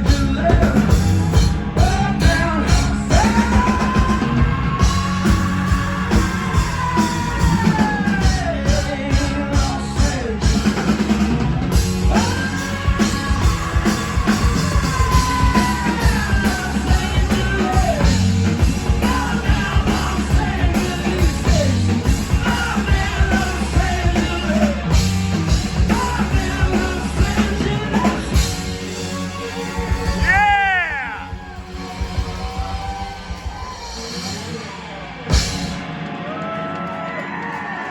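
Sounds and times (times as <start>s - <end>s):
bass: 0.0s - 36.7s
drums: 0.0s - 37.9s.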